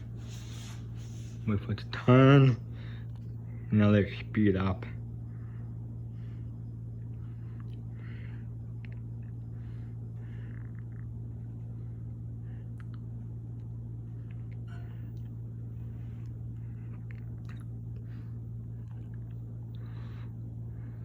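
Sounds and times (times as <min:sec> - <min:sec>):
ceiling fan humming: 0:00.0 - 0:21.0.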